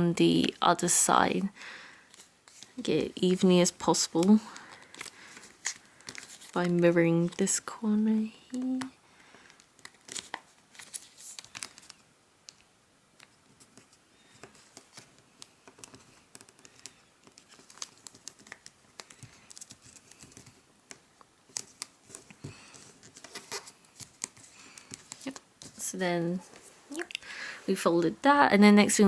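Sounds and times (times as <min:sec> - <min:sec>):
paper rustling and crinkling: 0:02.1 - 0:12.6, 0:13.2 - 0:26.8
paper crease crackles: 0:02.1 - 0:26.8.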